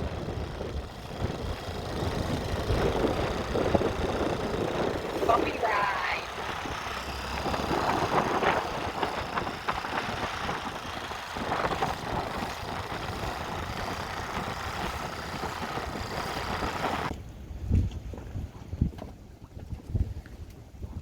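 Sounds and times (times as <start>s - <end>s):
outboard motor running: 0.0s - 19.8s
wind on microphone: 0.0s - 21.0s.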